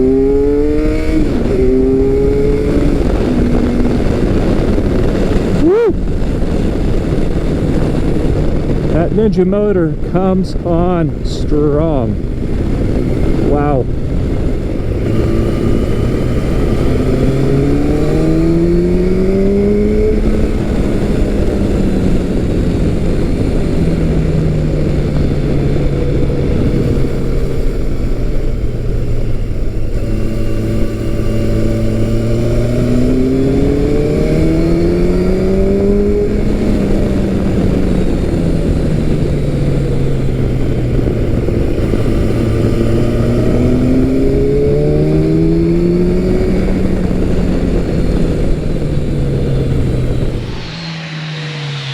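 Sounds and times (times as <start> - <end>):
motorcycle engine accelerating: 0.0 - 51.9
wind and road noise: 0.0 - 51.9.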